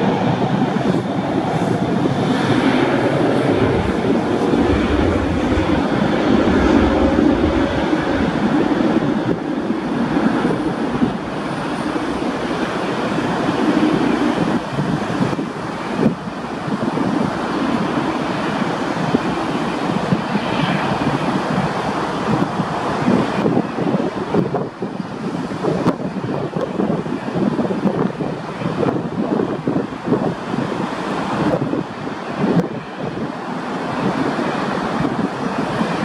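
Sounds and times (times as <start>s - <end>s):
jet engines at takeoff thrust: 0.0s - 36.0s.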